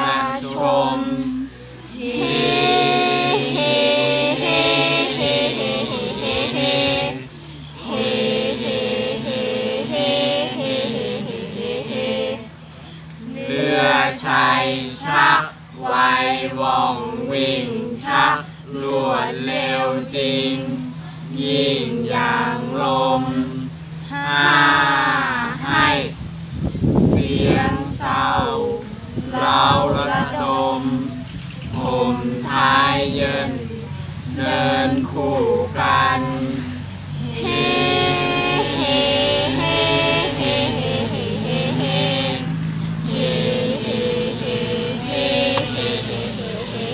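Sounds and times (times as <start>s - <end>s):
group chanting in unison: 0.0s - 26.2s, 27.1s - 46.9s.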